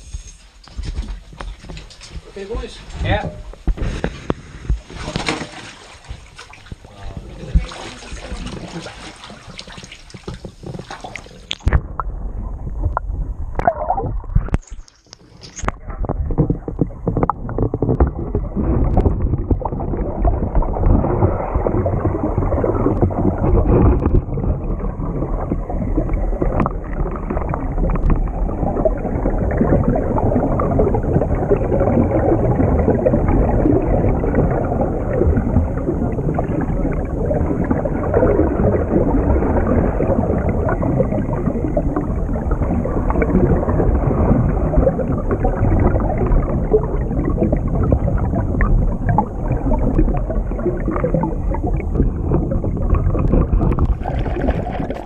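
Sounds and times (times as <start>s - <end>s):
muffled underwater rumbling and bubbling: 0.0s - 55.0s.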